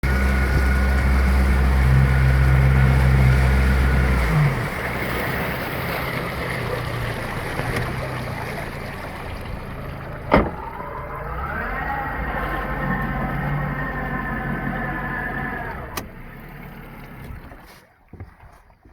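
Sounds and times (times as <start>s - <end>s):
boat motor running: 0.0s - 18.4s.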